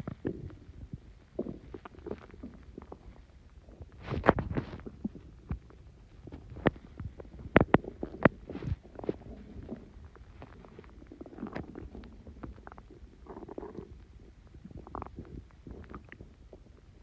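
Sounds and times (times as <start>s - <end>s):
stomach gurgling and popping: 0.0s - 17.0s.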